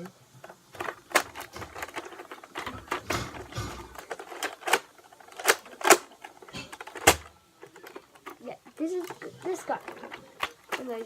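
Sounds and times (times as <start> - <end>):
plastic toy scraping and rustling: 0.0 - 11.0
sharp plastic clicks: 0.4 - 11.0.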